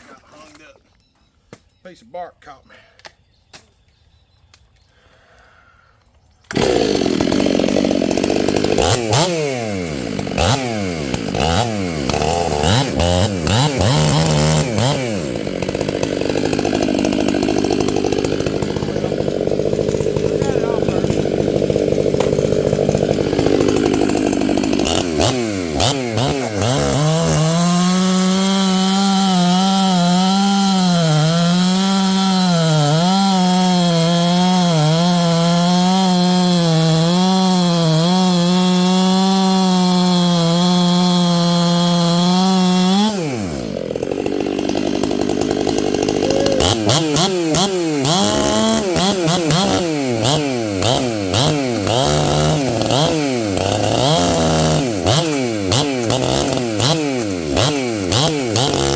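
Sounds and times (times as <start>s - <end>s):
chainsaw engine revving: 6.5s - 58.9s.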